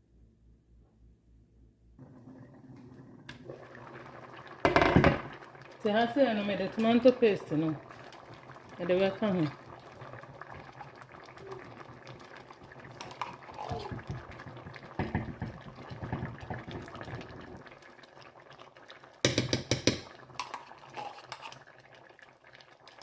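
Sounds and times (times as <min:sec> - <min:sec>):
soup bubbling in a pot: 0:02.0 - 0:23.0.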